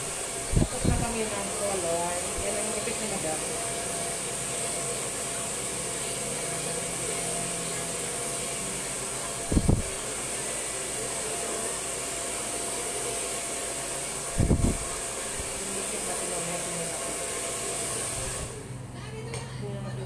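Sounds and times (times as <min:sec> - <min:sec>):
hair dryer blowing: 0:00.0 - 0:18.7.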